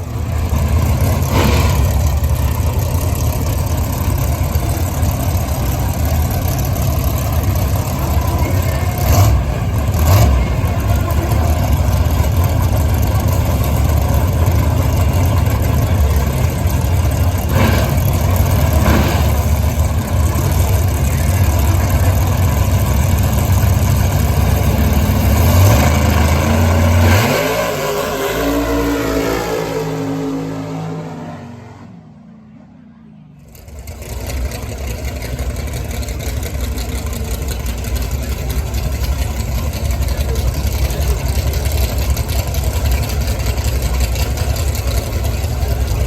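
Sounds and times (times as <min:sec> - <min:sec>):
drag car engine rumbling: 0:00.0 - 0:46.0.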